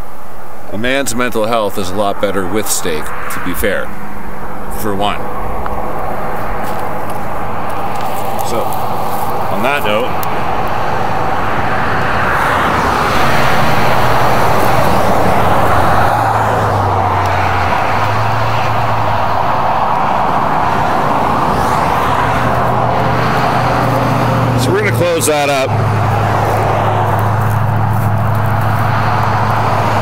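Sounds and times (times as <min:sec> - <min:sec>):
rush of passing vehicles: 0:00.0 - 0:30.0
low engine hum: 0:03.9 - 0:30.0.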